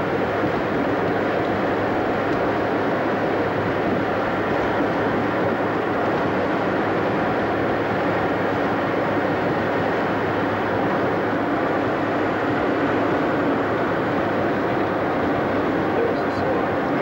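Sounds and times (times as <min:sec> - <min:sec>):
low engine hum: 0:00.0 - 0:17.0
road tyre and wind noise: 0:00.0 - 0:17.0.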